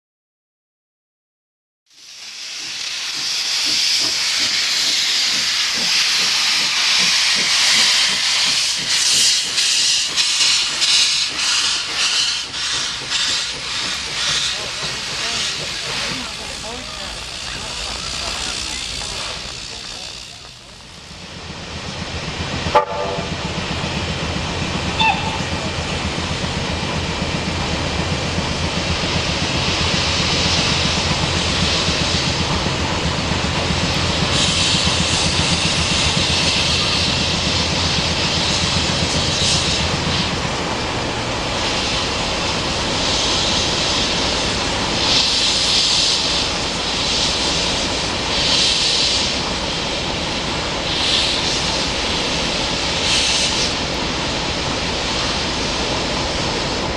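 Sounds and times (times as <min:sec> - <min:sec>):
steam hissing: 0:01.9 - 0:56.9
steam locomotive rumble: 0:01.9 - 0:56.9.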